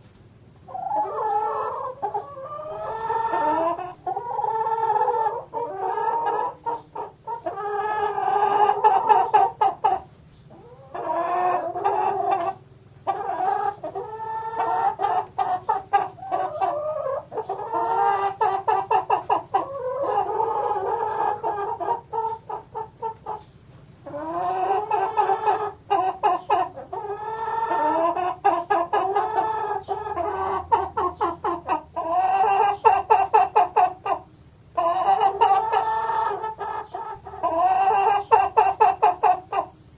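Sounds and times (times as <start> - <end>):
chickens clucking and cackling: 0.0 - 39.9.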